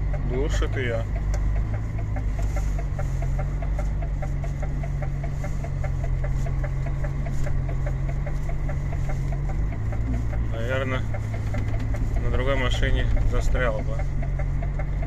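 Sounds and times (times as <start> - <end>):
diesel truck engine pulling: 0.0 - 15.0
rapid light ticking: 0.0 - 15.0.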